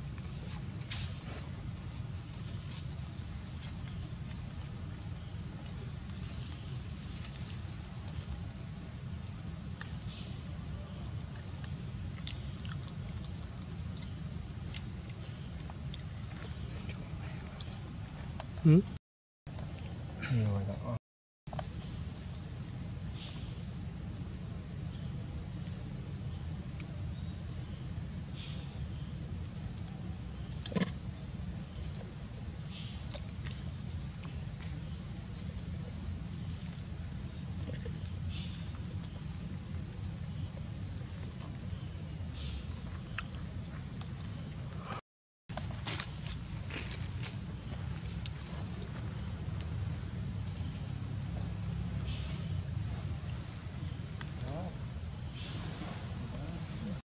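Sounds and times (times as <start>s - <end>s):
insects shrilling: 0.0s - 57.0s.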